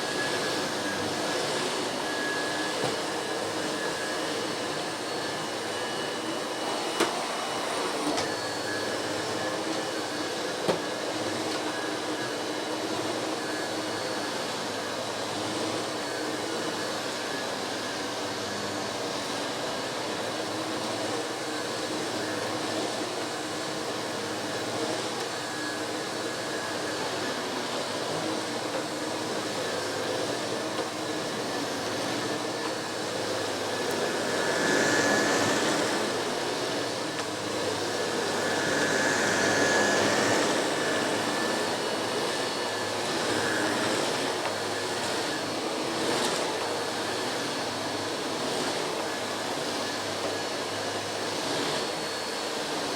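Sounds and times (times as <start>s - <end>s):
vacuum cleaner motor hum: 0.0s - 52.9s.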